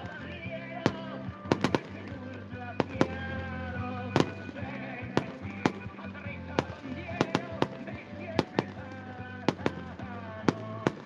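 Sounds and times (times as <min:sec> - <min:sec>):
fireworks bangs: 0:00.0 - 0:11.0
music: 0:00.0 - 0:11.0.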